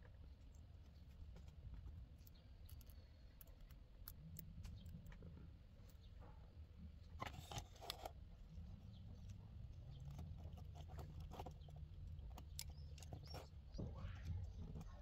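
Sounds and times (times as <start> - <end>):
small metal clicks and scrapes: 0.4 - 6.1, 7.1 - 8.2, 8.8 - 15.0.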